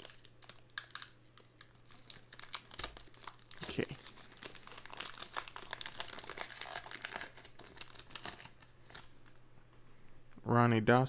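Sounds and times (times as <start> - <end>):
card pack wrapper crinkling: 0.0 - 9.4.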